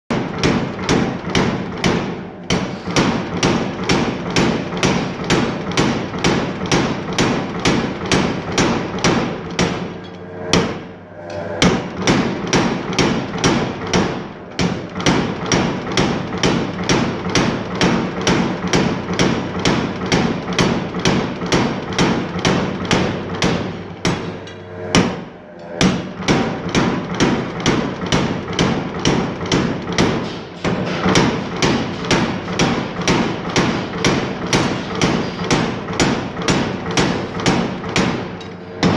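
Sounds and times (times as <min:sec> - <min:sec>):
power hammer striking metal rod: 0:00.1 - 0:38.9
steady motor hum: 0:00.1 - 0:38.9.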